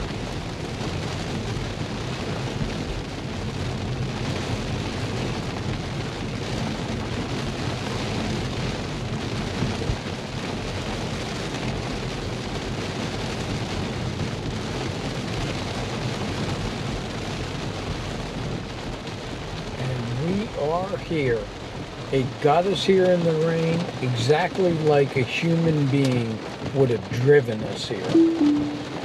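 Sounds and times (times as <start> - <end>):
tyres rumbling on wet road: 0.0 - 28.2
rain on car roof: 0.0 - 29.0.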